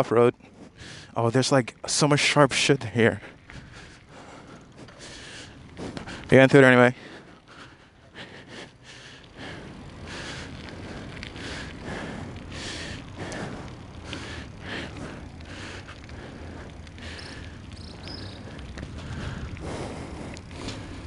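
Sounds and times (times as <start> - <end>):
bicycle rolling on asphalt: 0.0 - 21.0.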